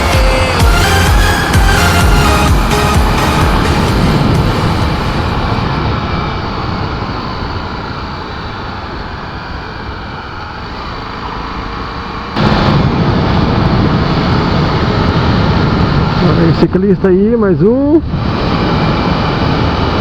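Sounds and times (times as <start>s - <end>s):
rushing wind: 0.0s - 20.0s.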